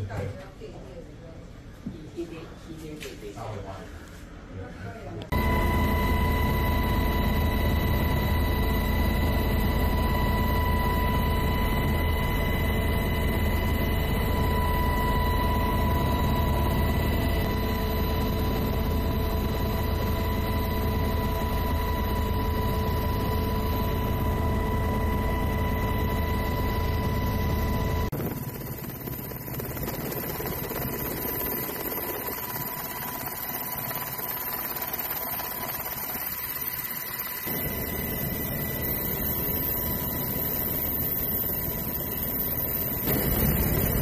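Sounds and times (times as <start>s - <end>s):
helicopter engine and rotor drone: 5.3s - 44.0s
high-pitched whine: 5.3s - 44.0s.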